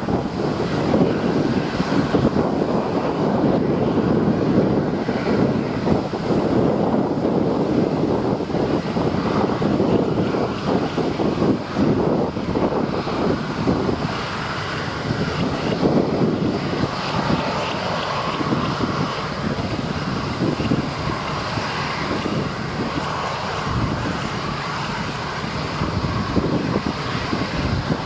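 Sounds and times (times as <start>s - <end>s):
faint engine whine: 0.0s - 28.0s
jet engines idling: 0.0s - 28.0s.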